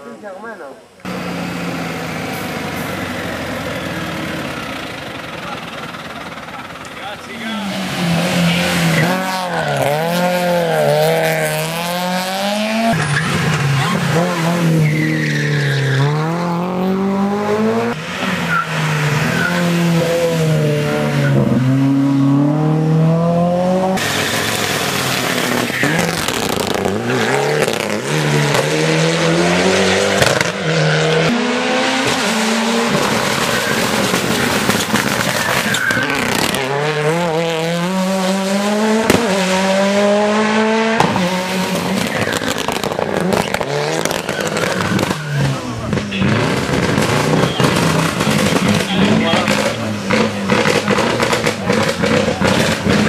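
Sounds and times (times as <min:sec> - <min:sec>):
rally car engines at full throttle: 0:00.0 - 0:53.0.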